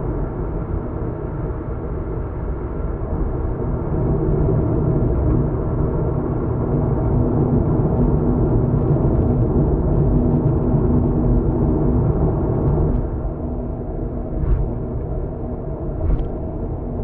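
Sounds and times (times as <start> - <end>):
car road and tyre rumble: 0.5 - 17.0.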